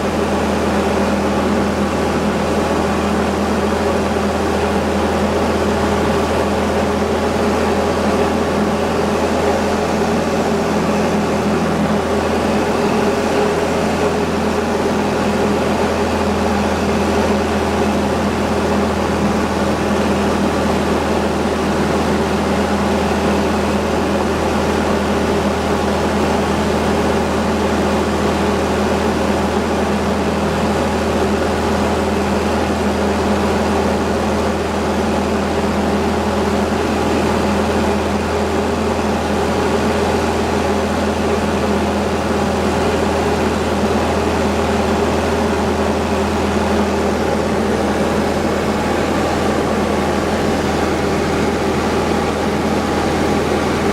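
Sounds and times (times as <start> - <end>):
aircraft engine and propeller droning: 0.0 - 53.9.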